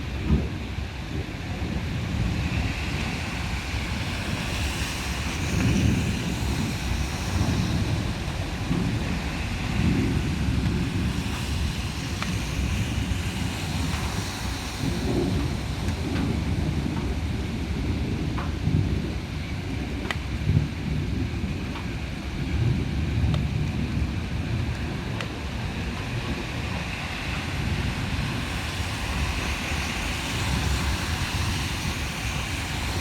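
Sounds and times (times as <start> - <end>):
heavy rain hiss: 0.0 - 33.0
wind buffeting microphone: 0.0 - 33.0.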